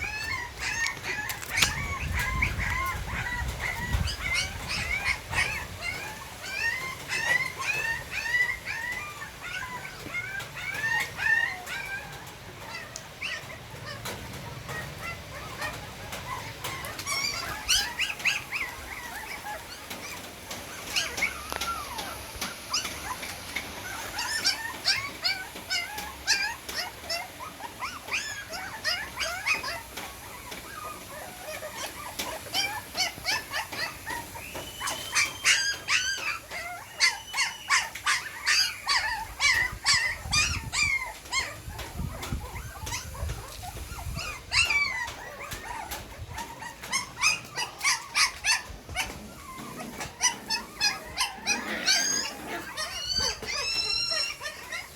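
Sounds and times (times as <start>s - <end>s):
puppies whimpering and squealing: 0.0s - 54.9s.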